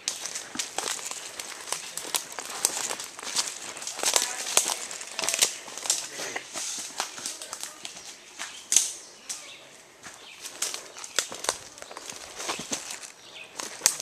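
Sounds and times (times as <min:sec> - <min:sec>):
rustling through brush: 0:00.0 - 0:14.0
twigs clicking and snapping: 0:00.0 - 0:14.0.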